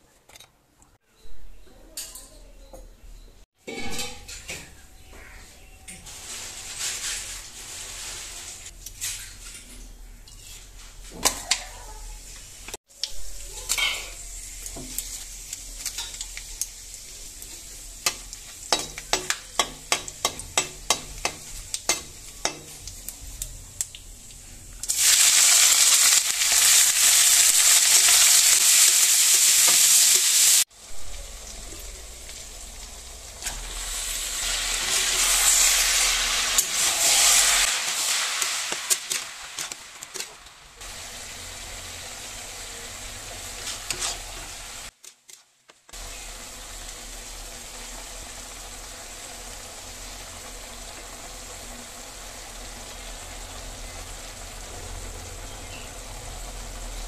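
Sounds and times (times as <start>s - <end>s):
oil sizzling in pan: 6.0s - 9.6s, 10.3s - 57.0s.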